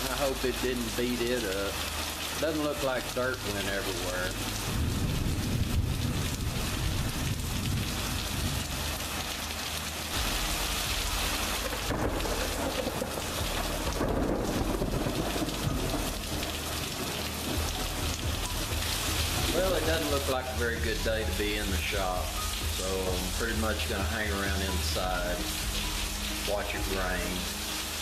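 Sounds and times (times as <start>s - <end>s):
heavy rain on concrete: 0.0s - 28.0s.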